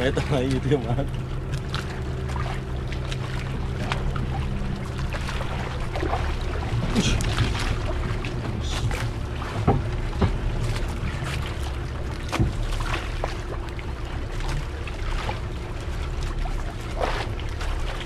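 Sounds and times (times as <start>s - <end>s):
boat engine hum: 0.0s - 18.0s
water splashing against hull: 0.0s - 18.0s.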